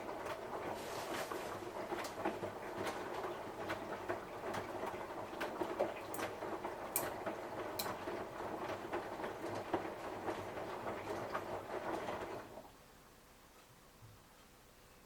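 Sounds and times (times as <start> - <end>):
washing machine drum tumbling: 0.0 - 12.6.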